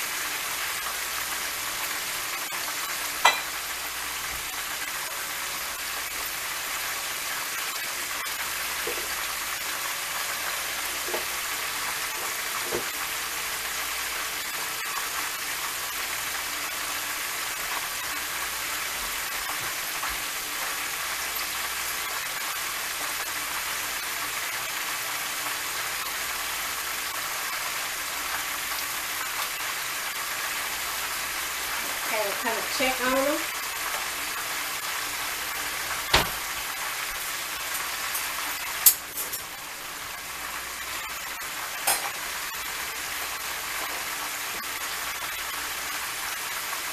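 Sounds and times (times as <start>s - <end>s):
deep-frying oil sizzle: 0.0s - 46.9s.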